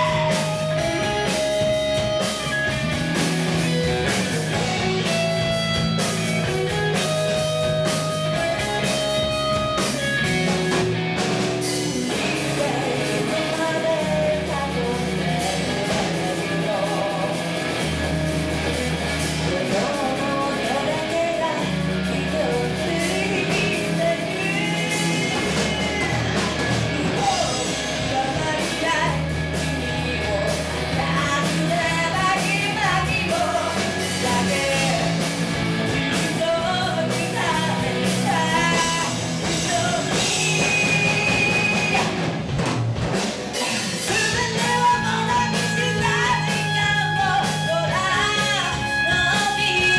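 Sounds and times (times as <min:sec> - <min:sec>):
woman singing lead: 0:00.0 - 0:17.9, 0:19.2 - 0:42.2, 0:43.5 - 0:49.9
rock band playing: 0:00.0 - 0:49.9.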